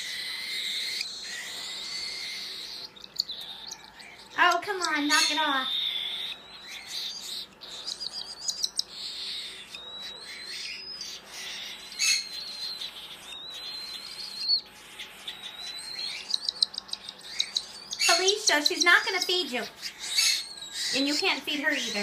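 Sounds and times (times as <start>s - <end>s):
young birds cheeping: 0.0s - 22.0s.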